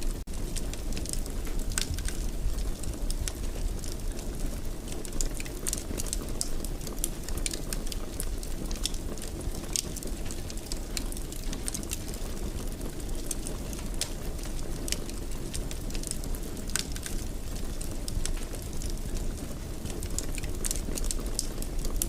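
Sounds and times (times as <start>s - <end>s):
fire crackles and snaps: 0.0s - 22.0s
low rumble of flames: 0.0s - 22.0s.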